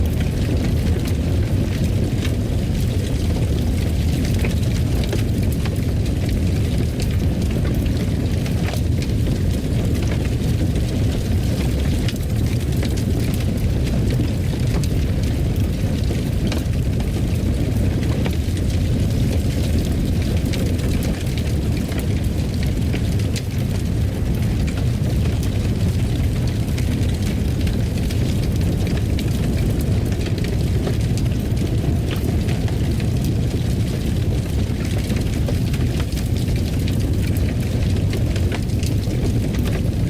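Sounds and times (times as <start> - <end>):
fire burning in fireplace: 0.0 - 40.0.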